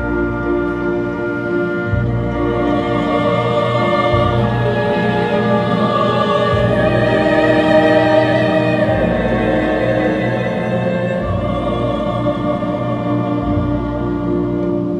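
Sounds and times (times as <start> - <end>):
orchestra playing: 0.0 - 14.9.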